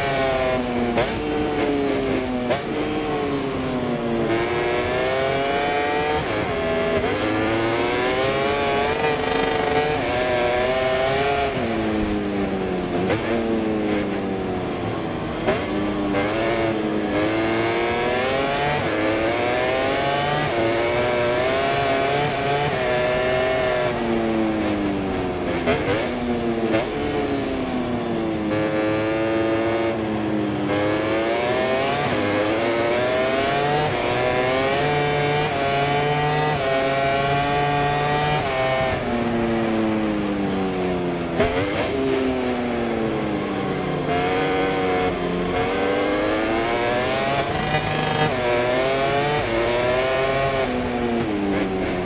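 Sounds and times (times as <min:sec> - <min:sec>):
racing motorcycle engine: 0:00.0 - 0:52.0.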